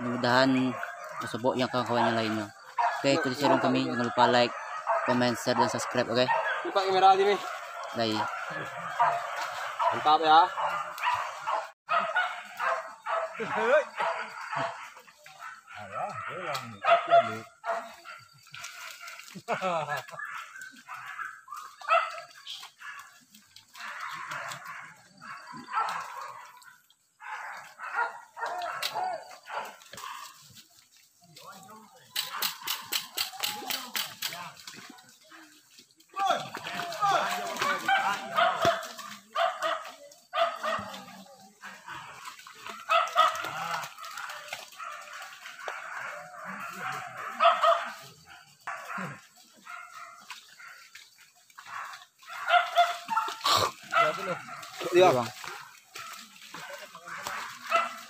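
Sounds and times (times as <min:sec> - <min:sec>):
dogs barking and yelping: 0:00.0 - 0:58.0.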